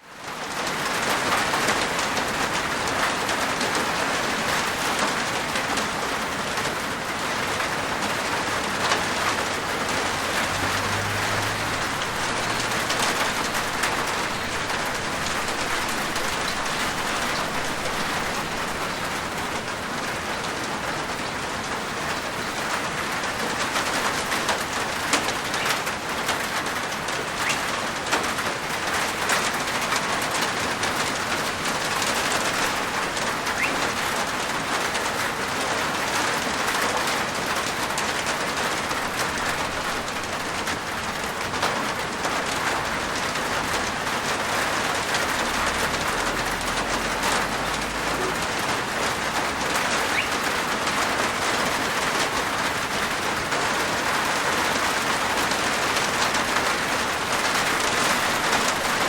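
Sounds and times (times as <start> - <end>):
rain on a rooftop: 0.0 - 59.0.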